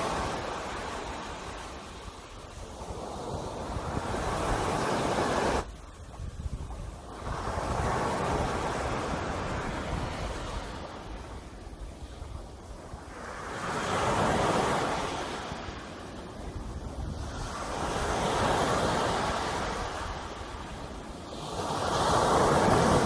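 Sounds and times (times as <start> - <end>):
sea waves breaking on shore: 0.0 - 23.0.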